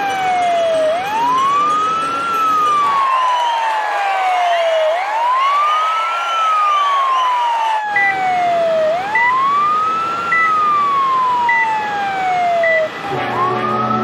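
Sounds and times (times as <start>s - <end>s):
ambulance siren wailing: 0.0s - 14.0s.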